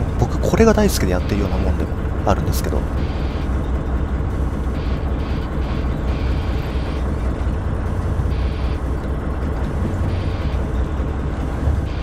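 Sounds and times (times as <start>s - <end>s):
boat engine running: 0.0s - 12.0s
wind: 0.0s - 12.0s.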